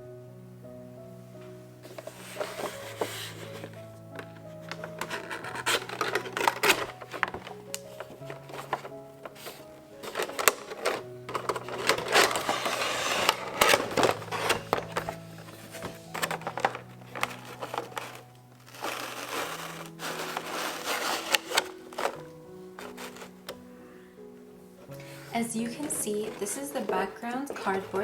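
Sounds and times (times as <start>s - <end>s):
soft background music: 0.0s - 28.0s
packaging rustling and scraping: 1.4s - 28.0s.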